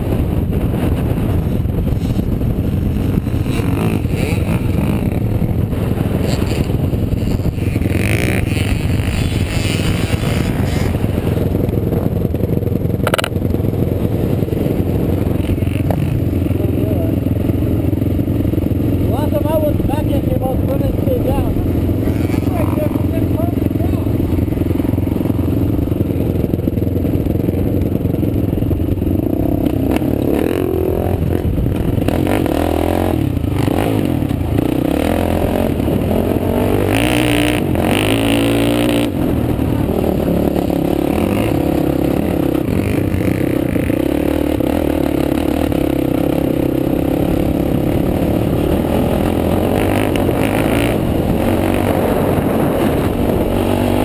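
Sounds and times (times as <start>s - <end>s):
quad engine revving: 0.1s - 54.0s.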